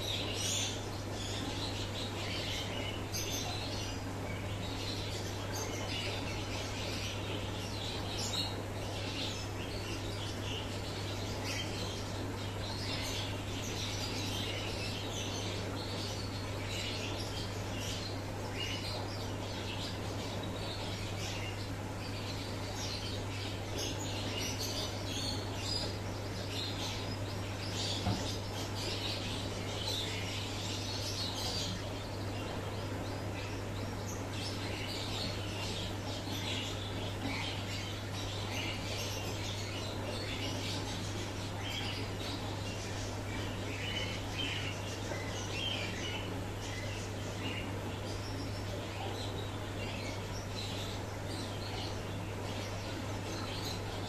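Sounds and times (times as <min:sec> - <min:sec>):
small birds chirping: 0:00.0 - 0:54.0
steady low hum: 0:00.0 - 0:54.0.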